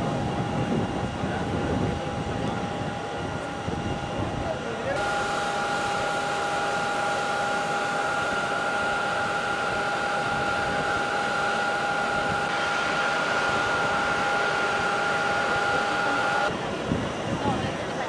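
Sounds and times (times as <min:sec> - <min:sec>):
aircraft turbine whining: 0:00.0 - 0:18.0.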